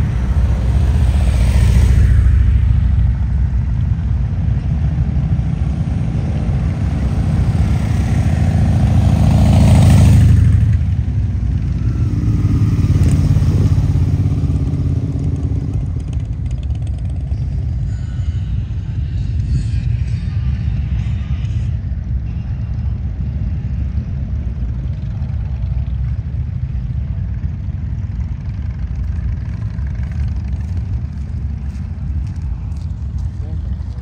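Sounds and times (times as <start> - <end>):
motorcycle engines rumbling: 0.0 - 34.0.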